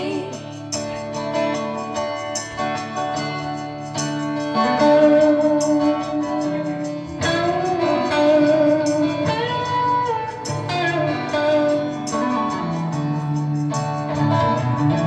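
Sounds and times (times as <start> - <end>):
lead guitar with slides and bends: 0.0 - 15.0
strummed guitar: 0.0 - 15.0.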